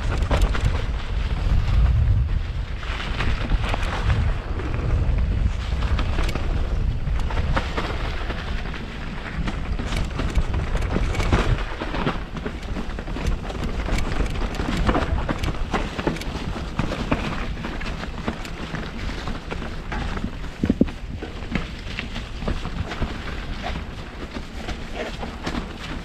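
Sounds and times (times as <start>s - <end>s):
bike rattling over rough ground: 0.0s - 26.0s
wind rumble on microphone: 0.0s - 26.0s.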